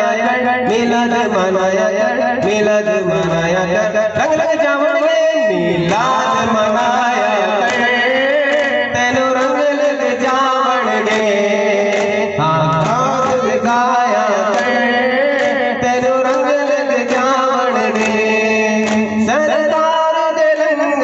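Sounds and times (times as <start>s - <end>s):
men chanting devotional song: 0.0s - 21.0s.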